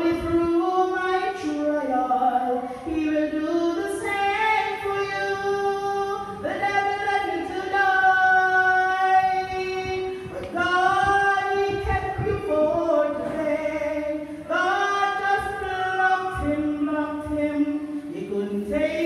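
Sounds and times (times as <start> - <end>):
woman singing gospel song: 0.0 - 19.0.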